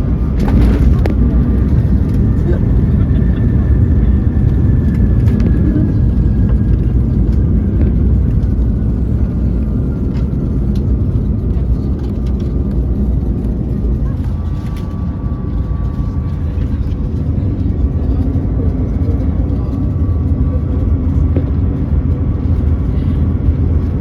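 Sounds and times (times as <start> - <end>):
aircraft cabin low rumble: 0.0 - 24.0.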